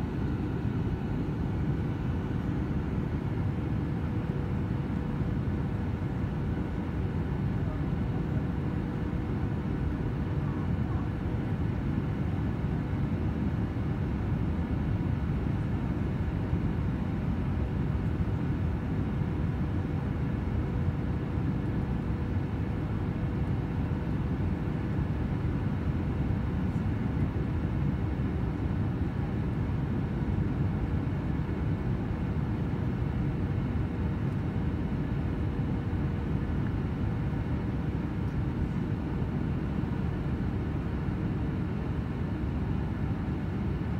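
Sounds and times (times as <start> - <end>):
jet airliner cabin noise: 0.0 - 43.9.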